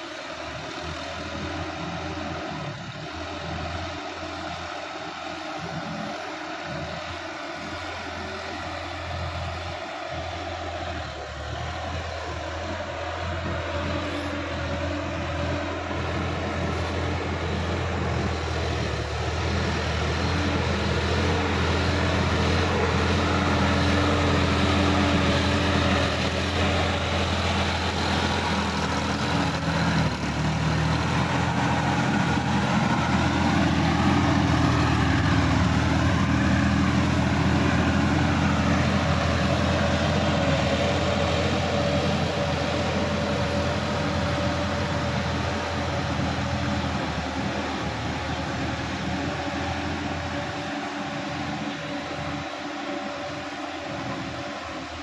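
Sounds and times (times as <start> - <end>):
tractor diesel engine: 0.0 - 55.0.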